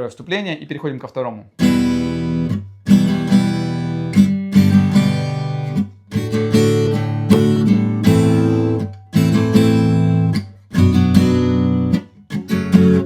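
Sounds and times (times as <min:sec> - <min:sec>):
acoustic guitar strumming chords: 0:01.6 - 0:13.0.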